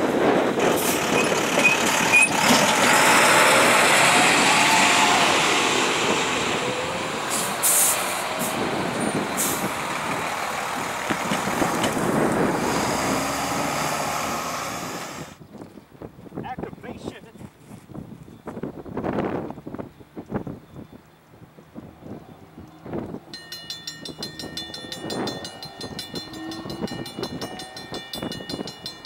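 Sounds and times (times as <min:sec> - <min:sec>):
heavy trucks driving over crossing: 0:00.0 - 0:15.4, 0:20.0 - 0:29.0.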